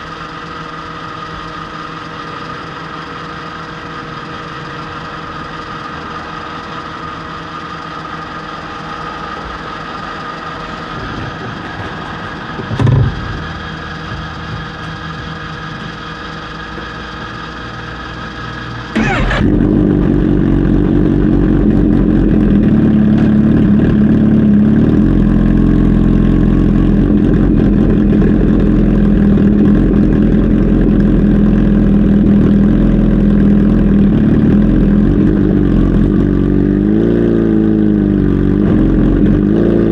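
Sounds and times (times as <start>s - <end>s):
steady whine and hum: 0.0s - 36.3s
motorcycle engine starting and idling: 0.0s - 39.9s.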